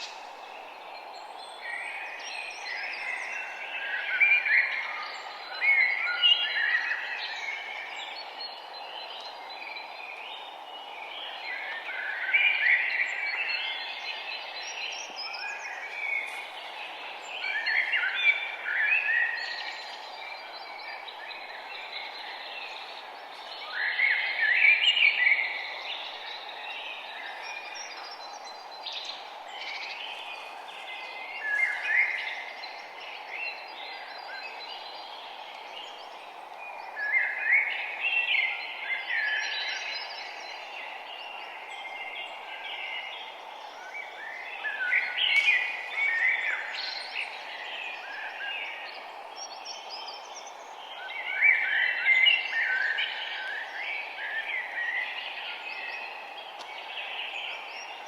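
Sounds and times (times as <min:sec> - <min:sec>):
background hiss: 0:00.0 - 0:09.4, 0:10.2 - 0:58.0
songbirds singing and chirping: 0:00.0 - 0:58.0.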